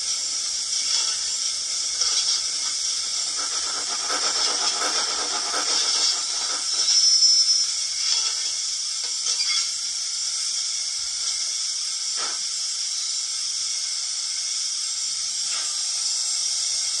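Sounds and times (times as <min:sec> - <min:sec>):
locomotive steam hiss: 0:00.0 - 0:17.0.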